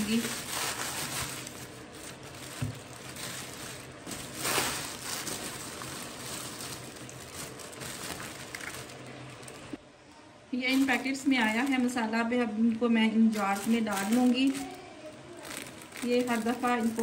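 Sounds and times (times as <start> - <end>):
plastic bag rustling: 0.0 - 9.8, 10.6 - 12.0, 13.3 - 17.0.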